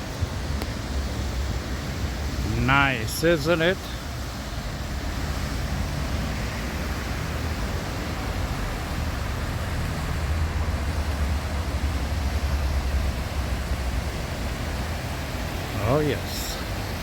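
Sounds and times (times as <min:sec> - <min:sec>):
city street ambience: 0:00.0 - 0:17.0.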